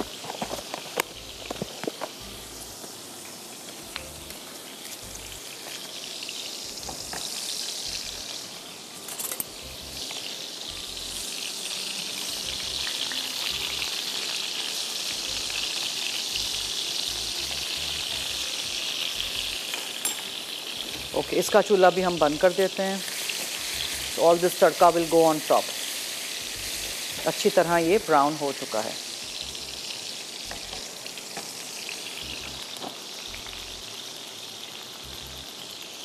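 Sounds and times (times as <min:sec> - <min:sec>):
kebabs sizzling in hot oil: 0:00.0 - 0:36.0.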